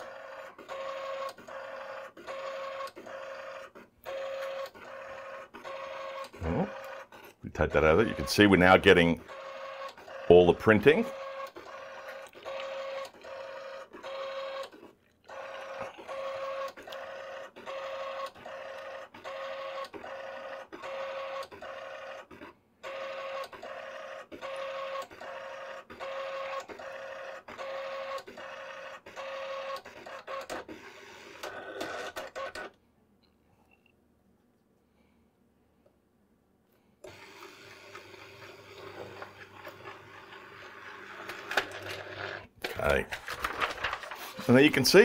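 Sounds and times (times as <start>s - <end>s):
printer carriage whining: 0.0s - 32.7s, 37.0s - 45.0s.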